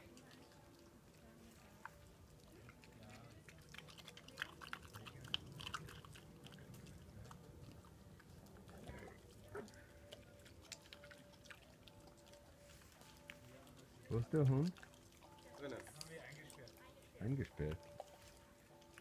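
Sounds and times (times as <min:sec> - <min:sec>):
boar chewing wet clicks: 0:00.0 - 0:19.0.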